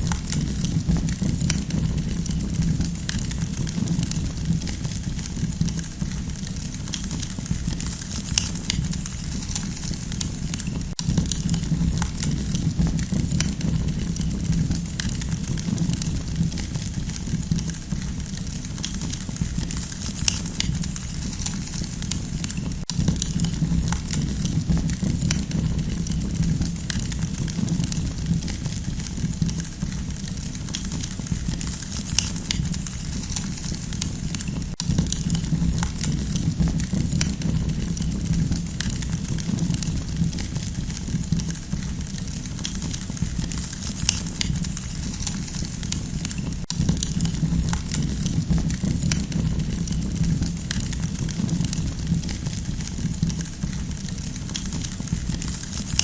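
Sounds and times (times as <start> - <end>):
campfire flames rumbling: 0.0 - 56.0
fire crackles and pops: 0.0 - 56.0.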